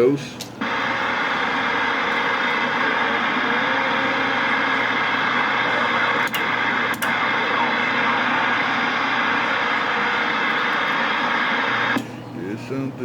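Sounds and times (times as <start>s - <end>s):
radio static hiss: 0.6s - 12.9s.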